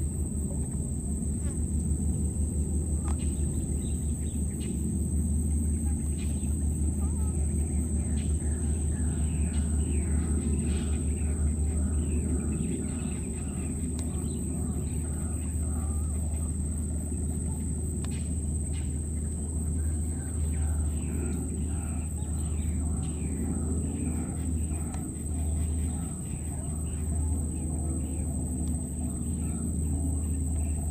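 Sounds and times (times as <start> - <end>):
high-pitched insect drone: 0.0 - 30.9.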